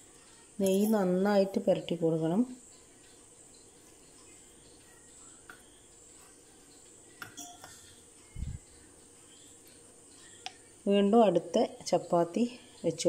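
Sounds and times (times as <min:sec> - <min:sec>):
faint high-pitched drone: 0:00.0 - 0:10.8.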